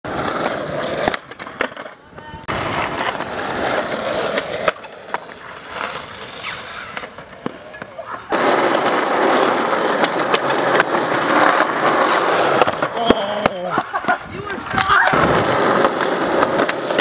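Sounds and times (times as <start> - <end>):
skateboard wheels rolling on concrete: 0.0 - 17.0
skateboard clacks: 0.1 - 17.0.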